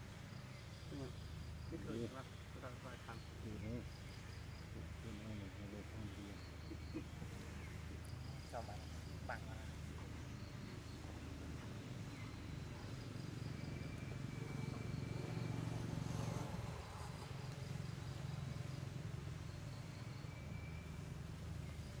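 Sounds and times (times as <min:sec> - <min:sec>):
high insect chirps: 0:00.0 - 0:22.0.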